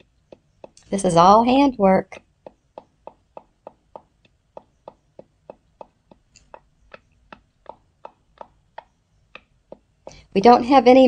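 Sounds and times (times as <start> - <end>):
wooden pestle pounding spices: 0.0 - 10.2.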